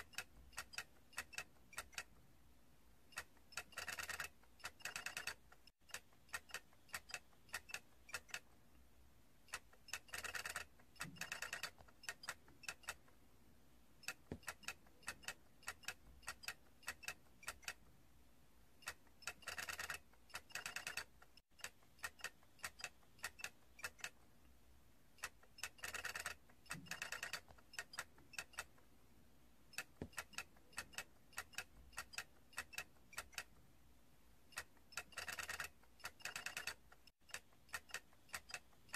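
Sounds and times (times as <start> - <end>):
plastic toy clicking: 0.0 - 2.2, 3.1 - 8.6, 9.5 - 13.1, 14.0 - 17.8, 18.8 - 24.2, 25.2 - 28.8, 29.7 - 33.6, 34.5 - 38.9.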